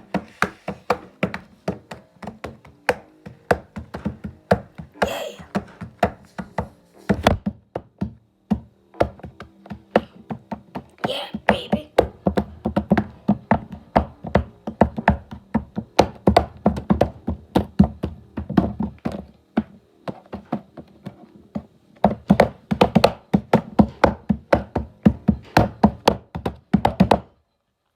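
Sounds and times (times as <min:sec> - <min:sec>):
rapid sharp taps and knocks: 0:00.0 - 0:27.3.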